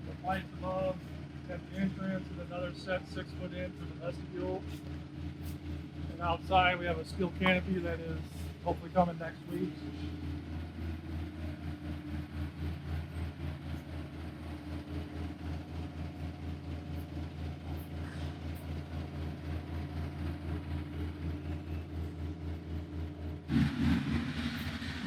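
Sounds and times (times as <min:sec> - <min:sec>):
large engine idling: 0:00.0 - 0:25.0.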